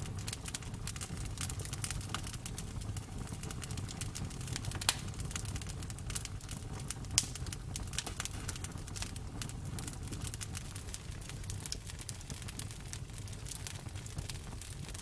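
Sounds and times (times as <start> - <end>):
campfire flames rumbling: 0.0 - 15.0
wood crackling and popping: 0.0 - 15.0.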